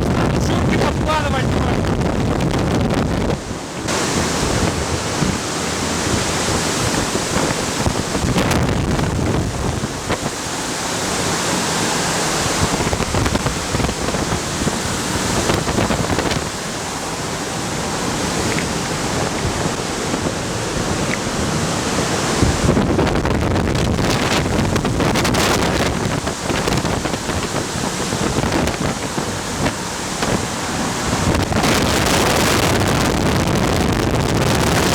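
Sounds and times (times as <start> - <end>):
loud rush of air: 0.0 - 34.9
wind buffeting microphone: 0.0 - 34.9.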